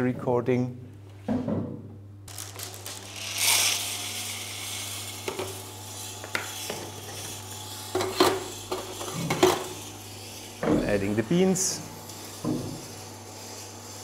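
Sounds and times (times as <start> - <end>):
coffee roaster humming: 1.6 - 14.0.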